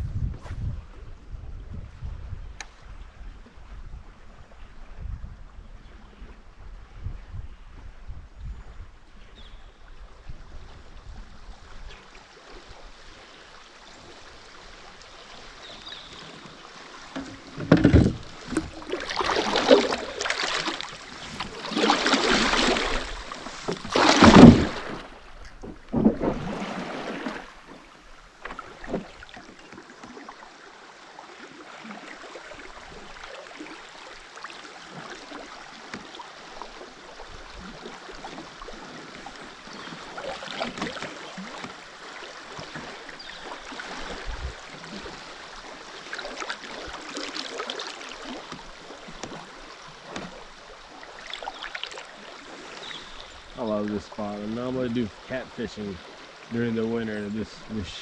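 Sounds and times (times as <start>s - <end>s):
paddle splashing water: 9.8s - 58.0s.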